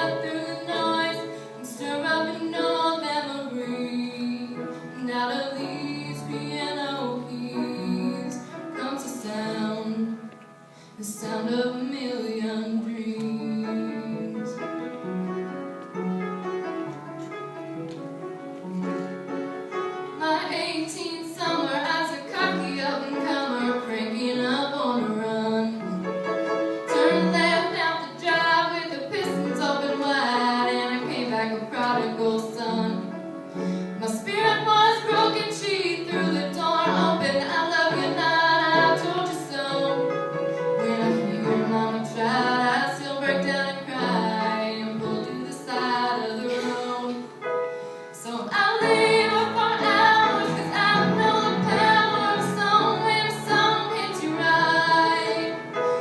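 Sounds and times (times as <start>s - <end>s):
woman singing a ballad: 0.0s - 10.3s, 11.0s - 14.6s, 20.2s - 25.9s, 27.0s - 33.1s, 34.0s - 40.1s, 40.8s - 47.4s, 48.1s - 55.8s
instrumental accompaniment: 0.0s - 56.0s.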